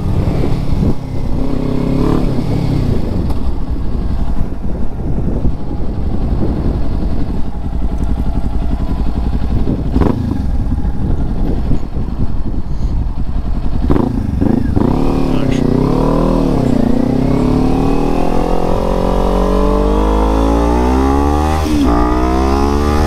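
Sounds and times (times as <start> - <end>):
motorcycle engine at low revs: 0.0 - 23.0.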